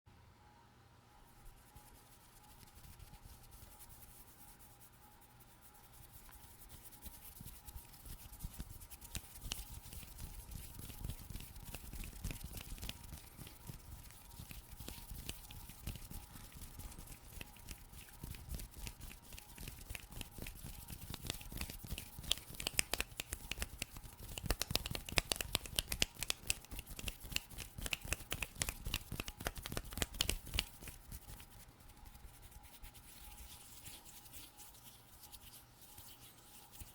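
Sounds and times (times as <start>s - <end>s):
hands scratching and rubbing: 1.3s - 36.9s.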